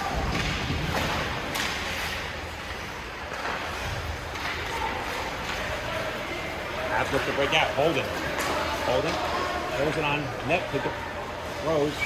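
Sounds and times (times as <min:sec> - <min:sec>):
steady rush of rink noise: 0:00.0 - 0:12.0.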